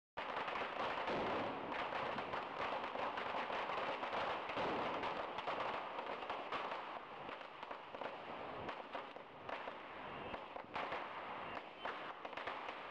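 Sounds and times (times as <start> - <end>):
firecrackers crackling: 0.2 - 12.9.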